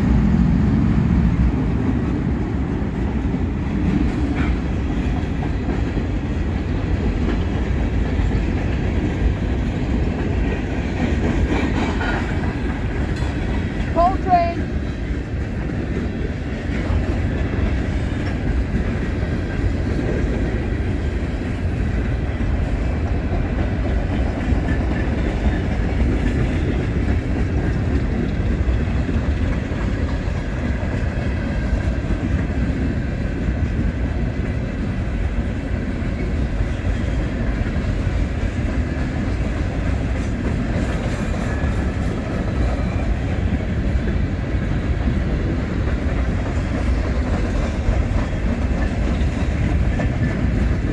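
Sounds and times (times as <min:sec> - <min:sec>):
freight train rumbling on rails: 0:00.0 - 0:50.9.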